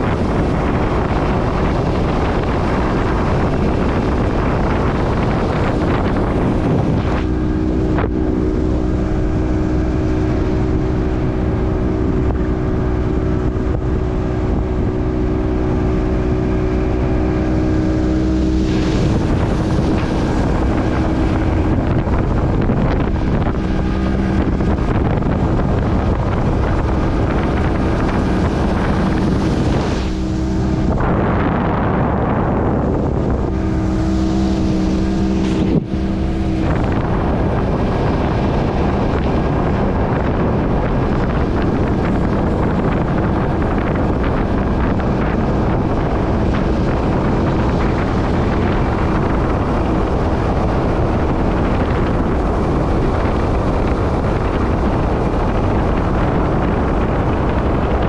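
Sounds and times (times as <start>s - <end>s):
boat wake rushing: 0.0s - 58.0s
outboard motor running: 0.0s - 58.0s
wind buffeting microphone: 0.0s - 58.0s.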